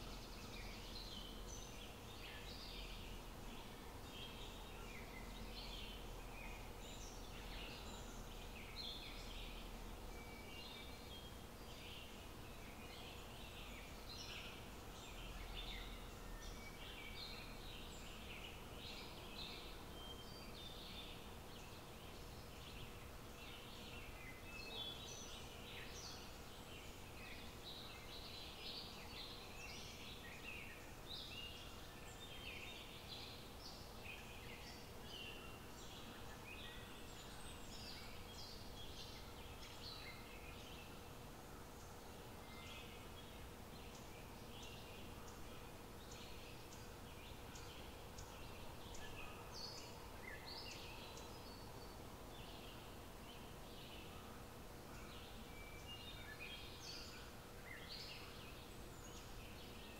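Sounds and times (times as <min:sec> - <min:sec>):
low outdoor background noise: 0:00.0 - 0:59.9.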